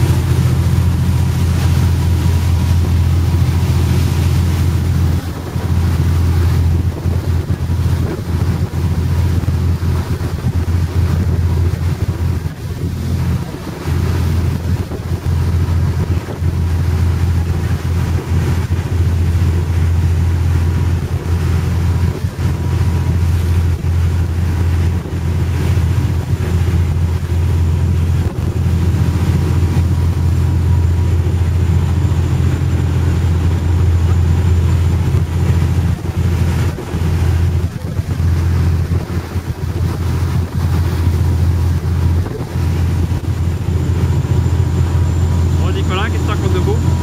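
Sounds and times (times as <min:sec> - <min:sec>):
ferry engine droning: 0:00.0 - 0:47.0
wind buffeting microphone: 0:00.0 - 0:47.0.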